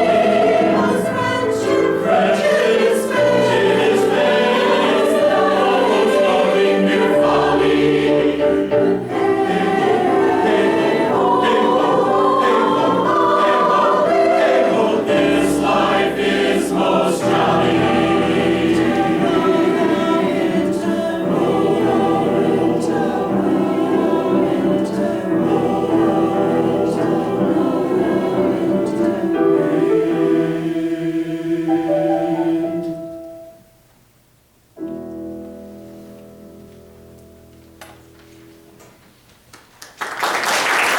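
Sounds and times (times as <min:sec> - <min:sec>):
choir singing held chords: 0:00.0 - 0:33.6
piano accompaniment: 0:00.0 - 0:33.8, 0:34.8 - 0:39.3.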